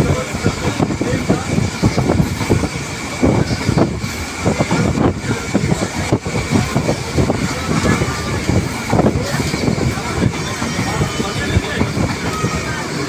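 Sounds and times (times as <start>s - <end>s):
train rumble: 0.0s - 13.0s
wheels knocking and rattling: 0.0s - 13.0s.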